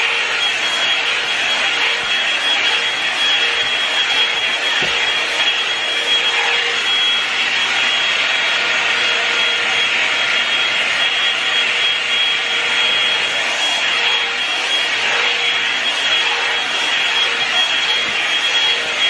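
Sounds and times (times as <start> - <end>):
hot-air brush dryer blowing: 0.0 - 19.0.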